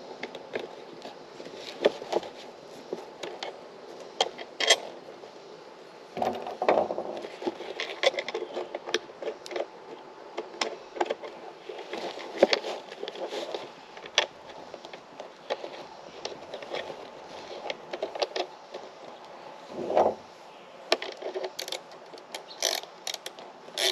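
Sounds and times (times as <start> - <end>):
vinyl cover rustling and scraping: 0.0 - 5.4, 6.1 - 21.6.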